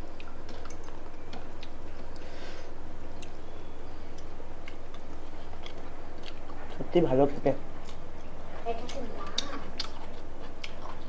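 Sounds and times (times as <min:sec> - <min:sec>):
steady low hum: 0:00.0 - 0:11.0
chewing: 0:00.1 - 0:07.0, 0:07.7 - 0:11.0.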